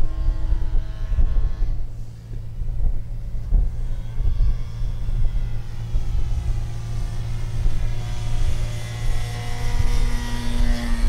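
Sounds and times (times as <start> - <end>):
low rumble: 0.0 - 11.0
model plane motor whining: 0.0 - 11.0.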